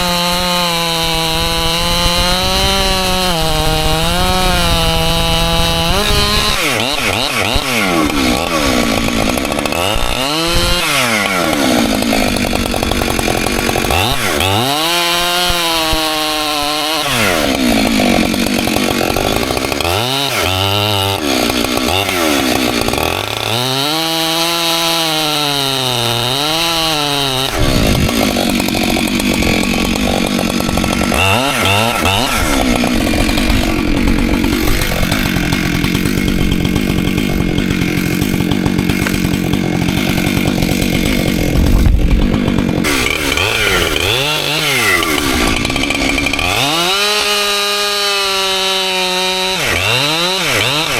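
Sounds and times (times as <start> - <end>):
chainsaw revving and cutting: 0.0 - 50.9.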